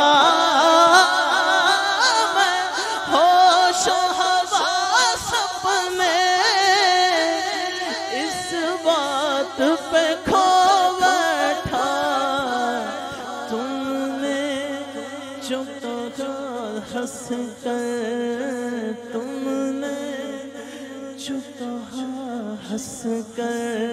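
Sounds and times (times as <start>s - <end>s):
man singing with echo: 0.0s - 23.9s.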